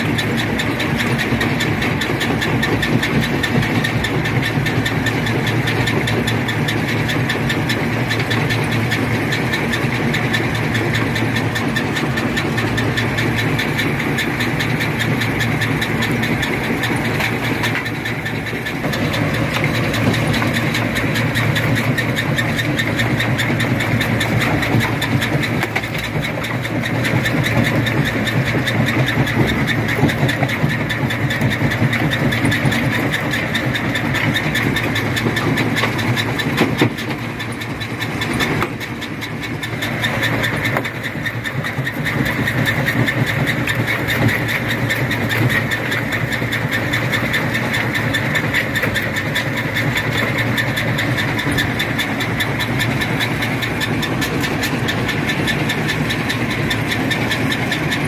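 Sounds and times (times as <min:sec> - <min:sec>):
rock crusher drone: 0:00.0 - 0:58.0.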